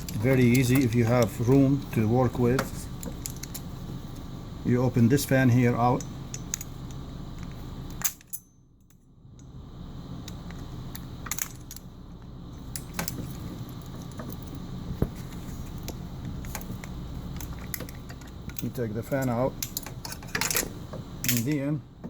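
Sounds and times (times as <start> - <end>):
metallic clicks of small parts: 0.0 - 4.3, 5.9 - 9.5, 10.2 - 14.6, 15.7 - 21.7.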